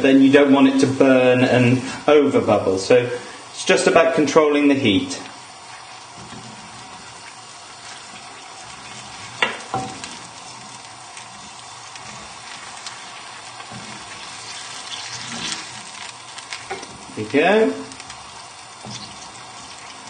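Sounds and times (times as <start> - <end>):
food sizzling in frying pan: 0.2 - 20.0.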